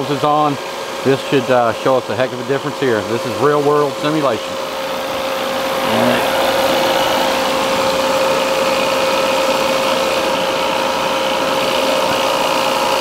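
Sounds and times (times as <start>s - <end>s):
compressor machine humming: 0.0s - 13.0s.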